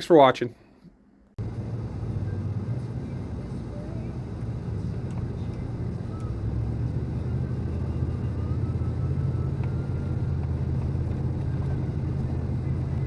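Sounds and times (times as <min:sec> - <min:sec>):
snowblower engine running: 0:01.4 - 0:13.0.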